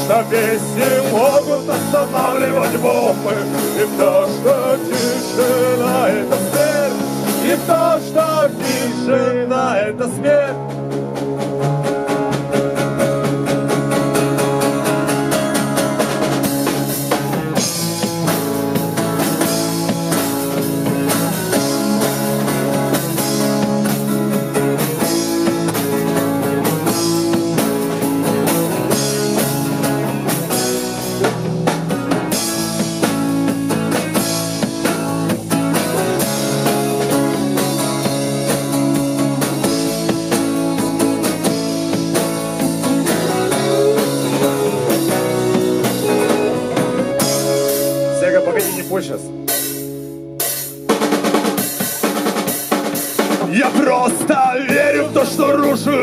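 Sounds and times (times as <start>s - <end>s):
bass guitar: 0.0s - 56.0s
drum kit steady beat: 0.0s - 56.0s
strummed electric and acoustic guitars: 0.0s - 56.0s.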